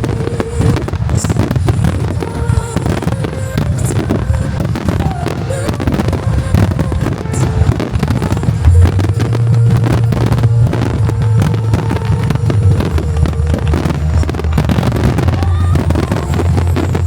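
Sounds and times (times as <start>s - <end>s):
fireworks crackle: 0.0s - 17.0s
fireworks shells booming: 0.0s - 17.0s.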